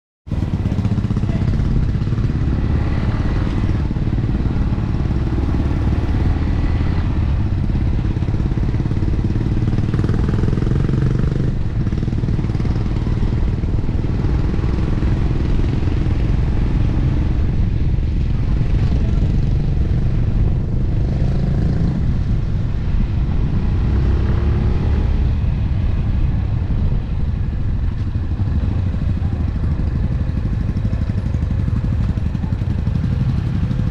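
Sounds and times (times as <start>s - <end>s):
motorcycle engine running: 0.3s - 33.9s.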